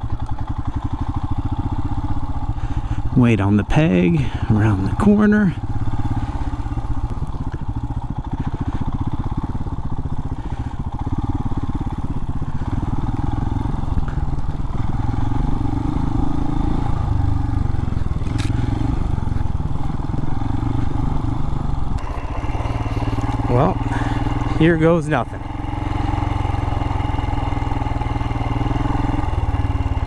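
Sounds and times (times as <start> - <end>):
motorcycle engine at low speed: 0.0 - 30.0.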